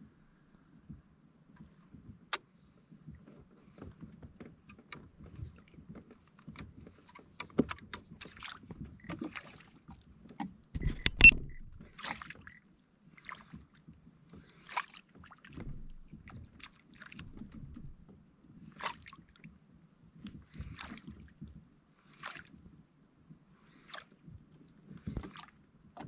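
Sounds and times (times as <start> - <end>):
water splashing against kayak hull: 3.2 - 19.4, 20.2 - 22.6, 23.7 - 26.0.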